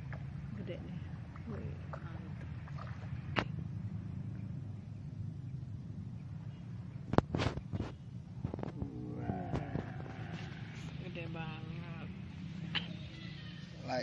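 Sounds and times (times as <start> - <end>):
low rumble: 0.0 - 12.8.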